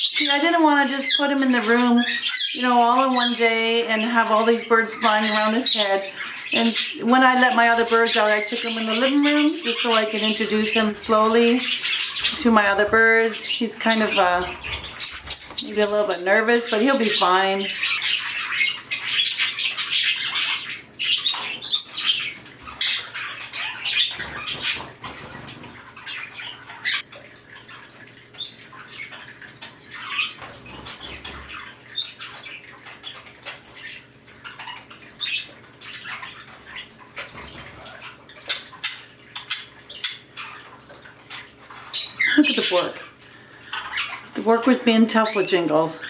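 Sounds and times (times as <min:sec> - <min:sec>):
birds chirping and calling: 0:00.0 - 0:46.0.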